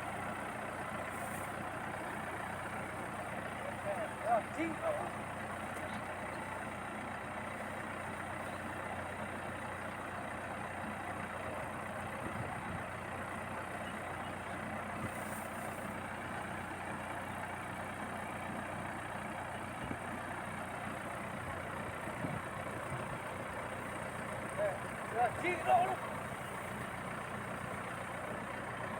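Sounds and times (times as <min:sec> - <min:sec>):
combine harvester engine hum: 0:00.0 - 0:28.9.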